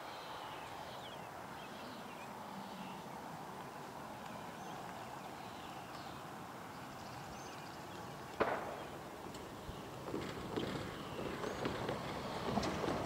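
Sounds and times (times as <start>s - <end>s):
outdoor background hum: 0.0s - 13.0s.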